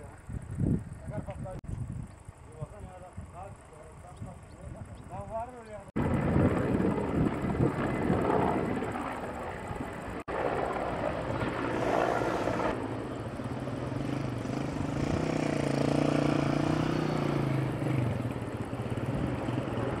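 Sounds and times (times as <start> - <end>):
steady low hum: 0.0 - 20.0
helicopter flying over: 2.3 - 20.0.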